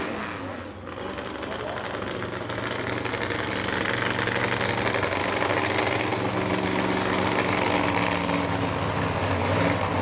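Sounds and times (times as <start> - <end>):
race car engines running: 0.0 - 10.0.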